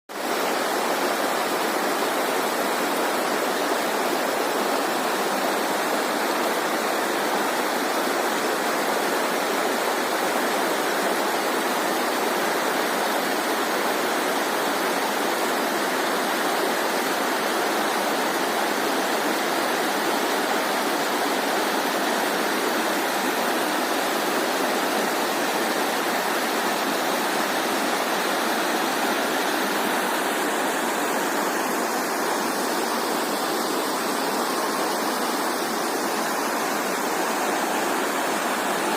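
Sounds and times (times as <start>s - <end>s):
running water rushing: 0.1s - 38.9s.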